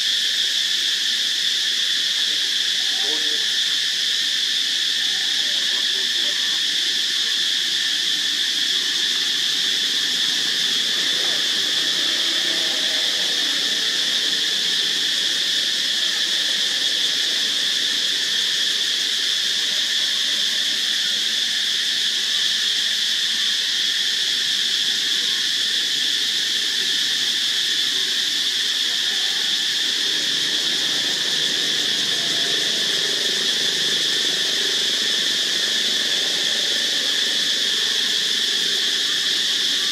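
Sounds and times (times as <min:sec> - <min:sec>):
insects chorus shrill drone: 0:00.0 - 0:39.9.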